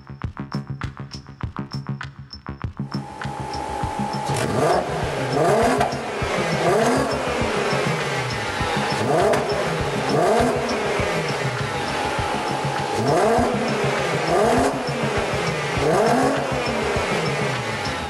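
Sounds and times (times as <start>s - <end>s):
car engine revving: 2.8s - 18.0s.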